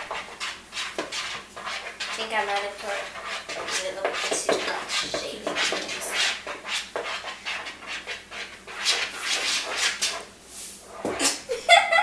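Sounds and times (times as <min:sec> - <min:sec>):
spoon stirring wet slime: 0:00.0 - 0:11.4.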